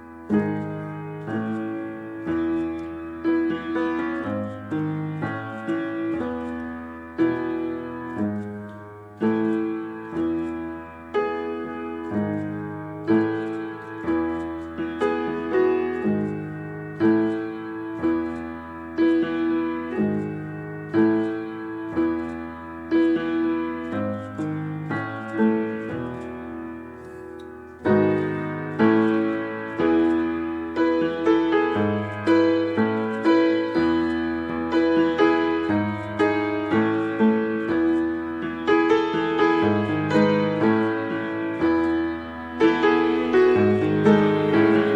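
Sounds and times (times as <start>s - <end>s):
piano music with bass line: 0.0s - 44.9s.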